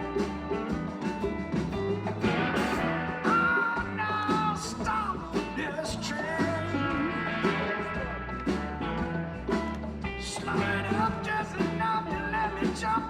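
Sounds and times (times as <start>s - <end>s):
electric guitar bending notes: 0.0s - 11.9s
bass: 0.0s - 13.0s
drums: 0.0s - 13.0s.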